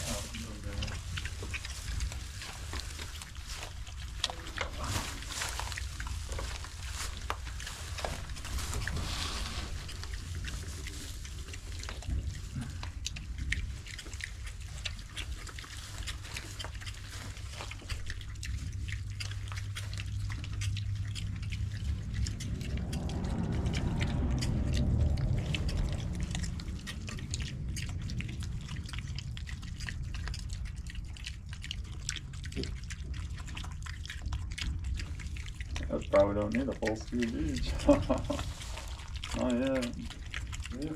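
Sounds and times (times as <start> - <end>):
low steady rumble: 0.0 - 40.9
piglets chewing and snuffling: 0.0 - 40.9.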